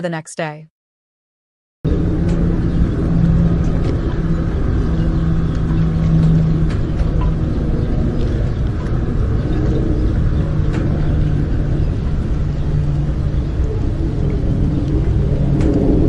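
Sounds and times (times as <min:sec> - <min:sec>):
motorboat engine running: 0:01.9 - 0:16.0.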